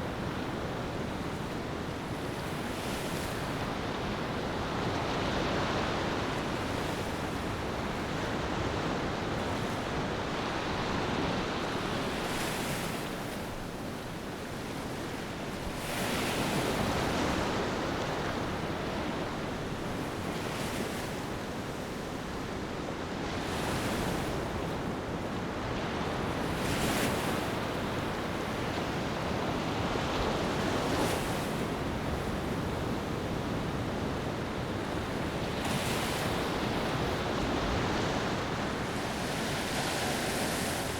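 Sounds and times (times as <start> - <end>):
ocean waves on a beach: 0.0 - 40.9.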